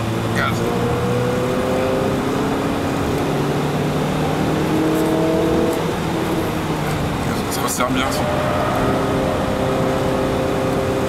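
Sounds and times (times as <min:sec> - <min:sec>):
car engine accelerating: 0:00.0 - 0:11.0
road and wind noise: 0:00.0 - 0:11.0.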